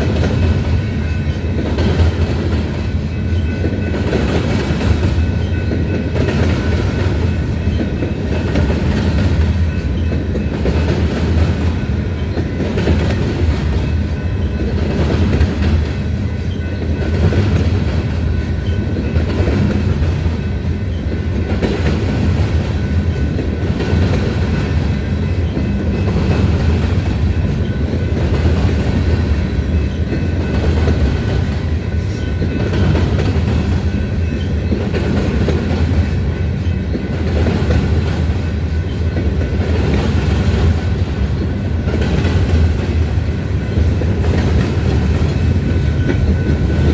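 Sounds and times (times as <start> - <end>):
freight train wheels rumbling on rail: 0.0 - 46.9.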